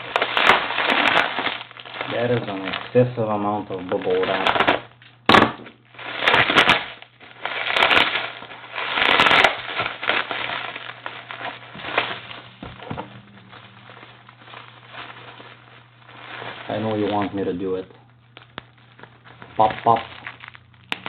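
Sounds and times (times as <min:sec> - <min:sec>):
bubble wrap crinkling and crackling: 0:00.0 - 0:21.0.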